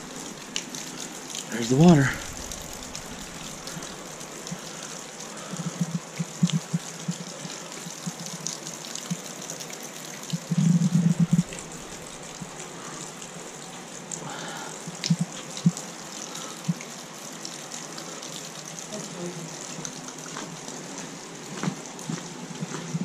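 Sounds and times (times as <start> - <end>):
waterfall splashing onto ice: 0.0 - 23.0.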